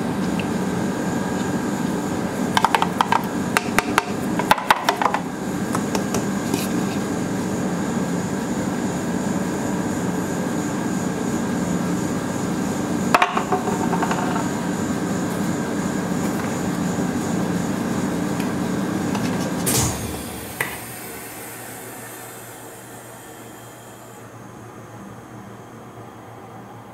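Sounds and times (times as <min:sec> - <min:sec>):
refrigeration machine hum: 0:00.0 - 0:26.9.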